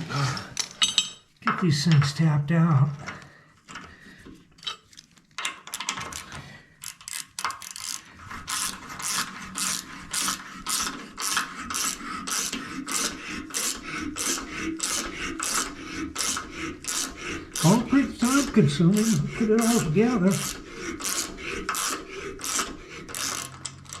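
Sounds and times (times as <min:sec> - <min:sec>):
scattered clicks and scrapes: 0:03.0 - 0:24.0.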